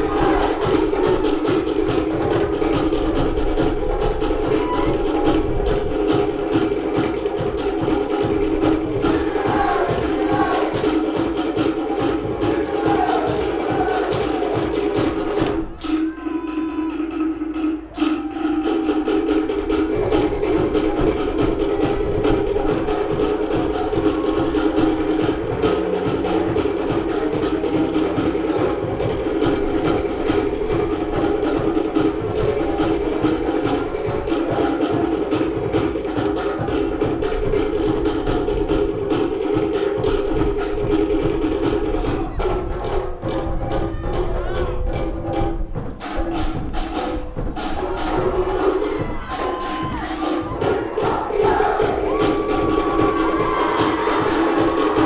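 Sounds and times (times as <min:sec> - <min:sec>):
drum ensemble playing: 0:00.0 - 0:55.0
wooden slit drums beating: 0:00.0 - 0:55.0.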